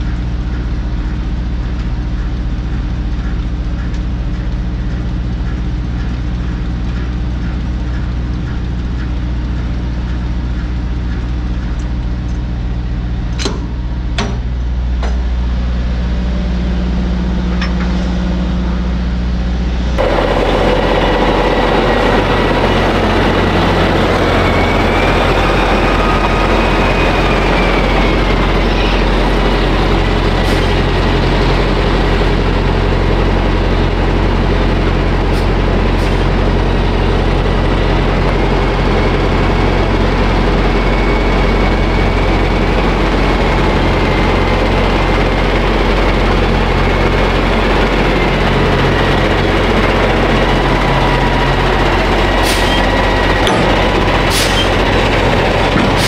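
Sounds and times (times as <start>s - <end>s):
diesel engine idling: 0.0s - 56.0s
rough engine noise with whine: 0.0s - 56.0s.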